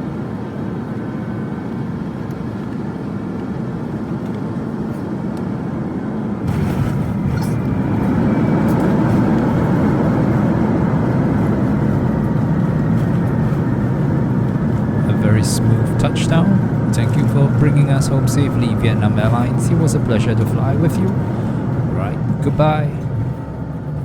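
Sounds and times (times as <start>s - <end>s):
airplane cabin hum: 0.0s - 24.0s.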